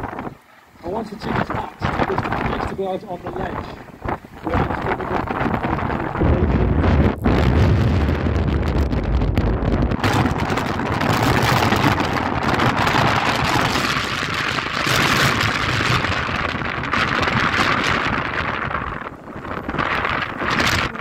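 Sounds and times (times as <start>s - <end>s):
boat wash rushing: 0.0s - 21.0s
wind buffeting microphone: 0.0s - 21.0s.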